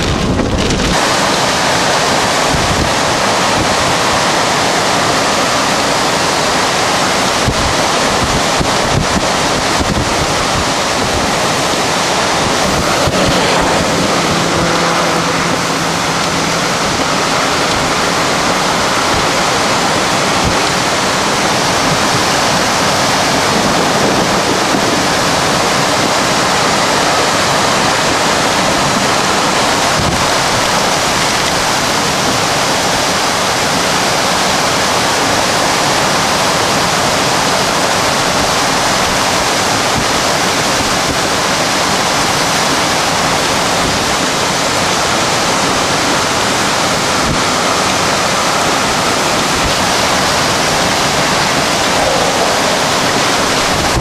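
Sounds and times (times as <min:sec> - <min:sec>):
storm wind roaring: 0:00.0 - 0:54.0
wind buffeting microphone: 0:00.0 - 0:54.0.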